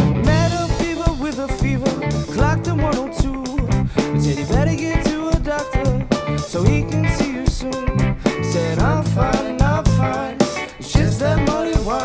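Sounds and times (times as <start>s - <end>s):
bass notes: 0.0s - 12.0s
drum kit beat: 0.0s - 12.0s
electric guitar lead melody: 0.0s - 12.0s.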